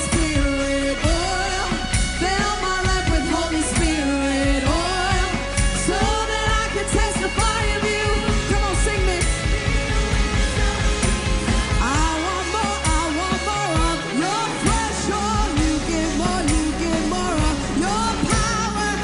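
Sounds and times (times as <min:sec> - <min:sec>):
live worship band music: 0:00.0 - 0:19.0
person singing: 0:00.0 - 0:19.0.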